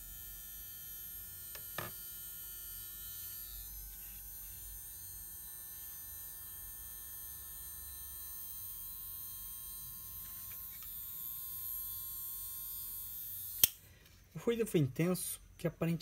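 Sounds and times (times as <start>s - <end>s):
hair clipper motor humming: 0.2s - 13.8s.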